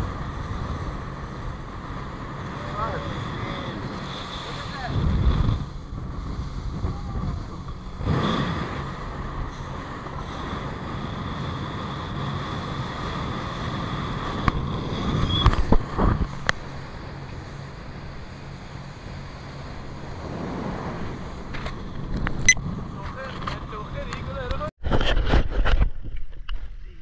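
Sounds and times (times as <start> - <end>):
water rushing past hull: 0.0 - 24.2
boat engine running: 0.0 - 24.7
wind buffeting microphone: 0.0 - 27.0.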